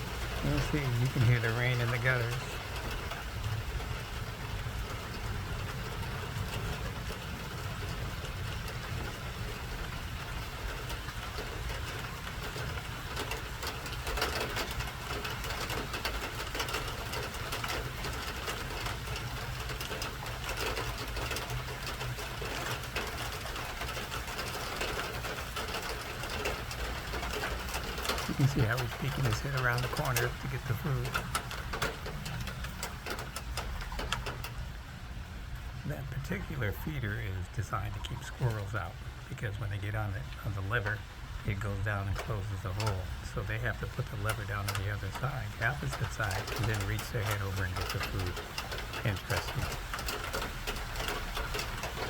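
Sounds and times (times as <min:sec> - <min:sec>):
drops pattering: 0:00.0 - 0:52.0
water rumbling in gutters: 0:00.0 - 0:52.0.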